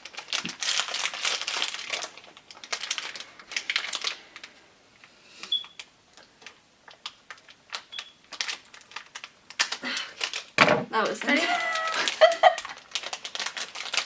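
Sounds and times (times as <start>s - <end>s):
plastic wrapping crinkling: 0.0s - 14.0s.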